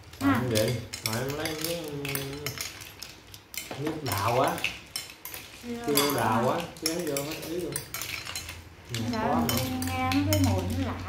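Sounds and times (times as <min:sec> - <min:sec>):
spoons clinking in ceramic bowls: 0:00.0 - 0:11.0.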